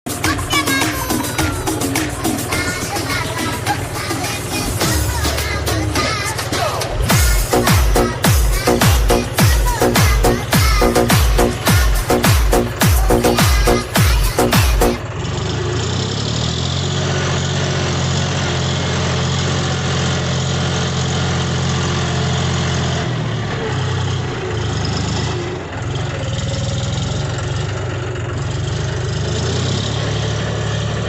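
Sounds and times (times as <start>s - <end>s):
tractor diesel engine idling: 0.1s - 31.0s.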